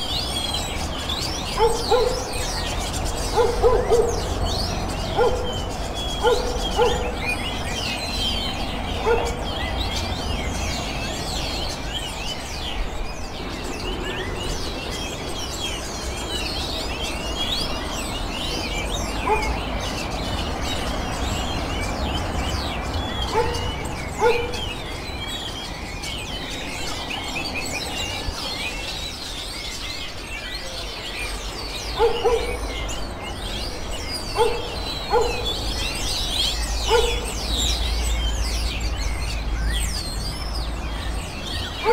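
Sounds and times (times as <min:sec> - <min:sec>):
birds chirping and twittering: 0:00.0 - 0:41.9.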